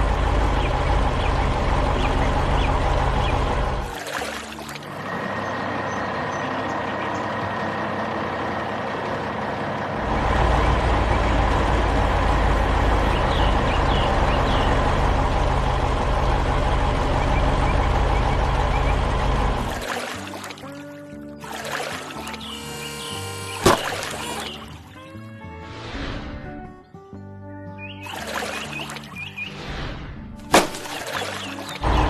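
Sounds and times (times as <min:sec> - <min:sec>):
diesel engine running: 0:00.0 - 0:25.3, 0:30.2 - 0:32.0.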